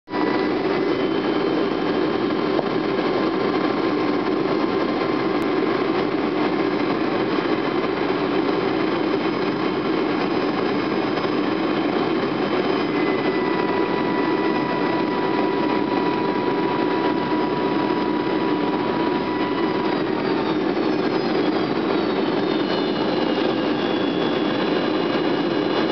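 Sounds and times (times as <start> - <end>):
aircraft engine and airflow noise: 0.1 - 25.9.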